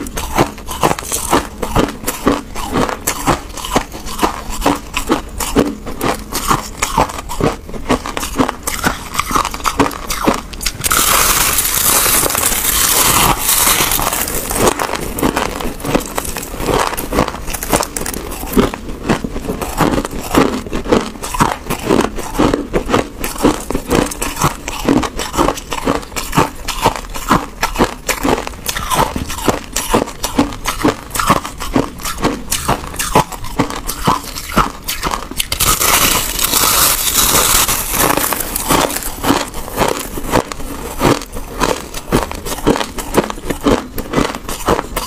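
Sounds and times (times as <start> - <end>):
chewing crushed ice: 0.0 - 45.0.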